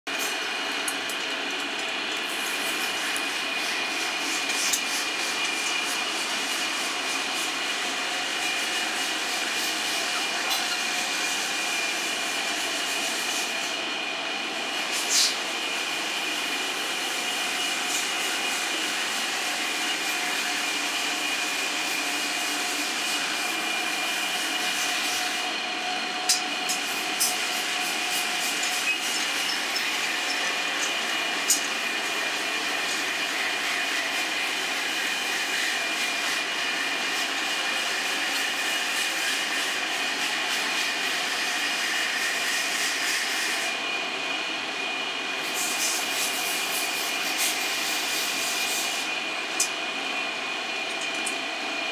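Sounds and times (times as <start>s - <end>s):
steady mechanical hum: 0.1s - 51.9s.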